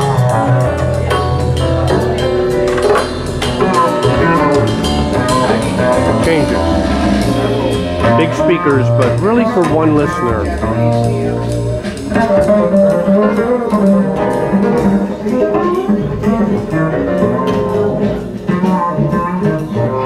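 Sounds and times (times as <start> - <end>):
plucked string music on speakers: 0.0 - 20.0.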